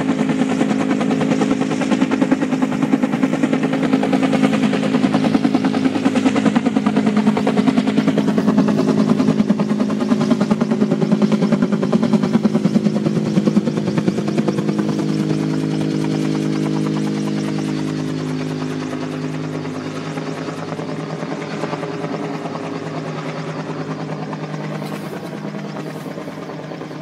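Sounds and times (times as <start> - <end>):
helicopter engine drone: 0.0 - 27.0
helicopter rotor chop: 0.0 - 27.0.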